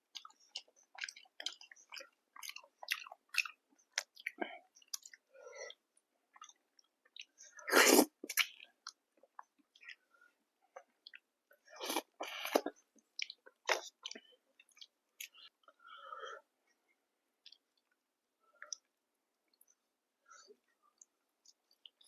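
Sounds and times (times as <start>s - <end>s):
person chewing food: 0.0s - 15.9s, 17.4s - 19.8s, 20.4s - 22.0s.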